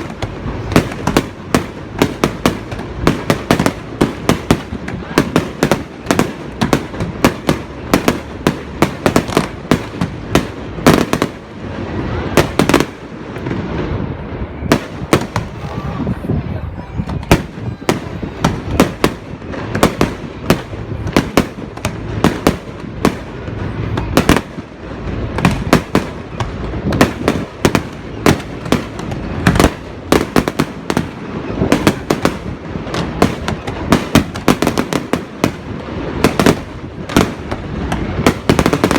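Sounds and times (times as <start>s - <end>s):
fireworks bangs and pops: 0.0s - 38.9s.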